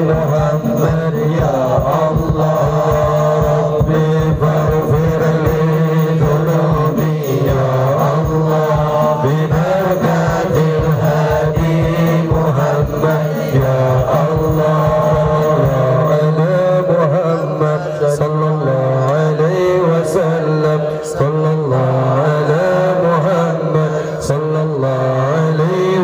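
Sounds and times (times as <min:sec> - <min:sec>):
devotional chant singing: 0:00.0 - 0:26.0.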